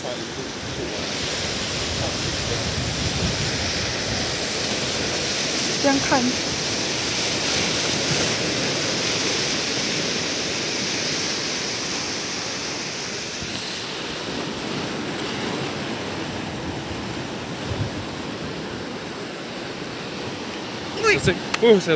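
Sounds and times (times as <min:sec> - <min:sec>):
waves breaking on shore: 0:00.0 - 0:21.9.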